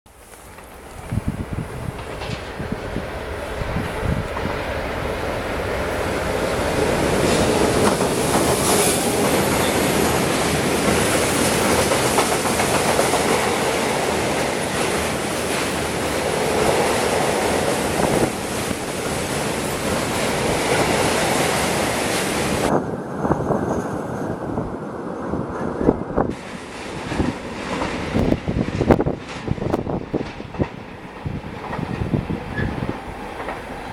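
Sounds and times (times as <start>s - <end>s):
train wheels clattering on rails: 0.4s - 24.4s, 25.4s - 33.9s.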